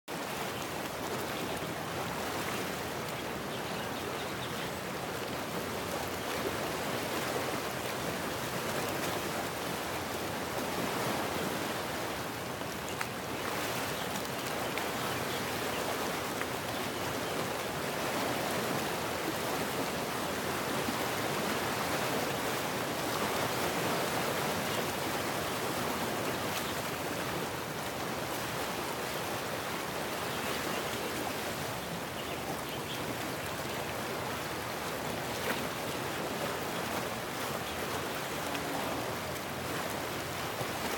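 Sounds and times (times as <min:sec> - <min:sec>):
waves washing onto beach: 0:00.1 - 0:40.9.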